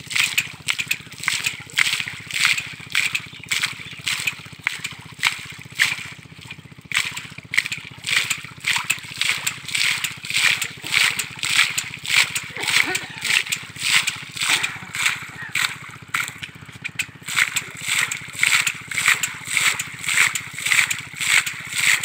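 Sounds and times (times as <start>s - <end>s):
water gushing and splashing: 0.0s - 22.0s.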